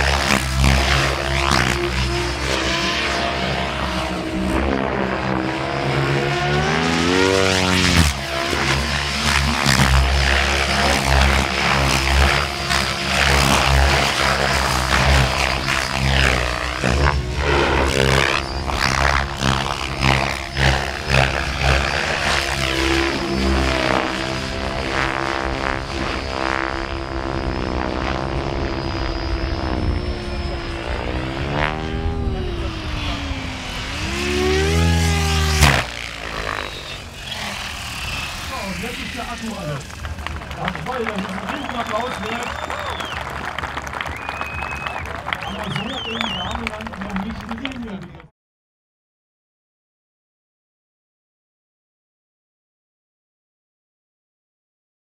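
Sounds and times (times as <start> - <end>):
low motor hum: 0.0 - 48.0
helicopter rotor blades whirring: 0.0 - 48.3.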